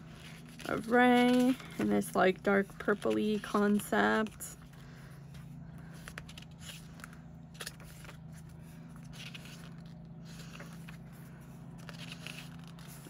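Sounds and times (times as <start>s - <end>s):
paper pages turning: 0.0s - 13.0s
steady low hum: 0.0s - 13.0s.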